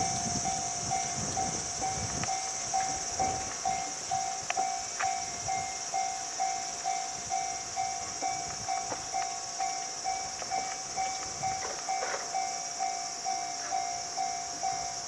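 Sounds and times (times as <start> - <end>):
level crossing warning bell: 0.0 - 15.0
steady high hiss: 0.0 - 15.0.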